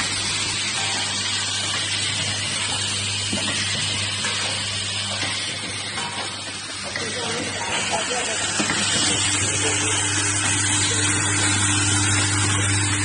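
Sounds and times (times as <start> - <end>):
welding machine hissing and humming: 0.0 - 13.0.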